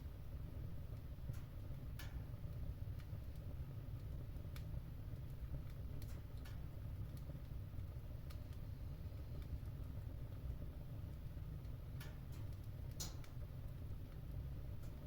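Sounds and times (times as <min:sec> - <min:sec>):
fire crackles and pops: 0:00.0 - 0:15.0
low rumble of fire: 0:00.0 - 0:15.0.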